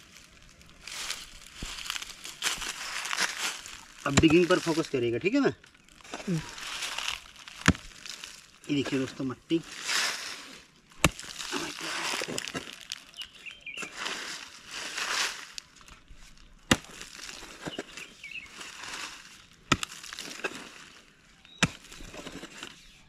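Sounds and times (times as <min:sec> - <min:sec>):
mattock chopping dry soil: 0:00.7 - 0:22.9.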